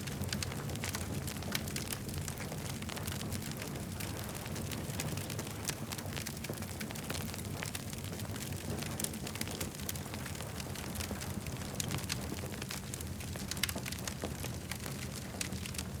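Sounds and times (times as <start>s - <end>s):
burning wood crackling and popping: 0.0s - 16.0s
low rumble of fire: 0.0s - 16.0s.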